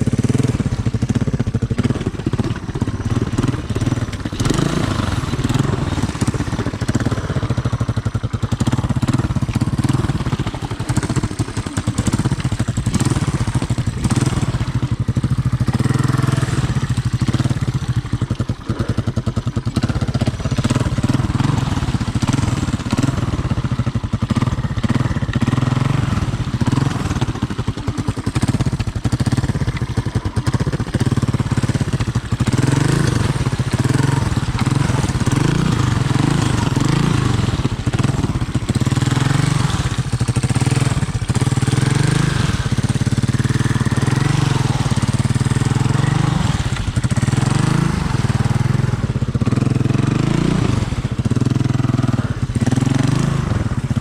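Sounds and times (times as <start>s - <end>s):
three-wheeler engine running: 0.0s - 54.0s.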